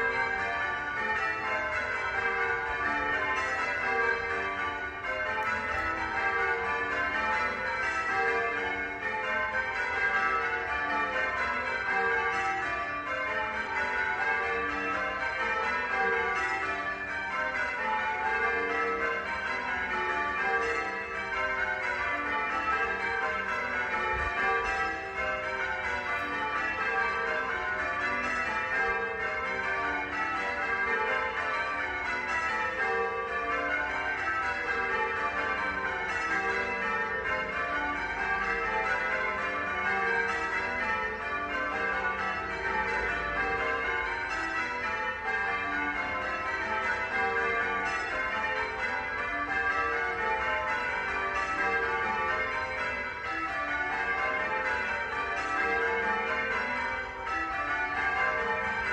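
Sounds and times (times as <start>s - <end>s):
church bells pealing: 0.0s - 58.9s.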